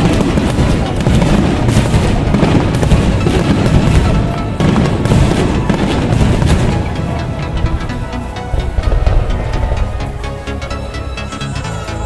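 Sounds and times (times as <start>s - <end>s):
fireworks booming and crackling: 0.0s - 11.6s
music playing: 0.0s - 12.0s.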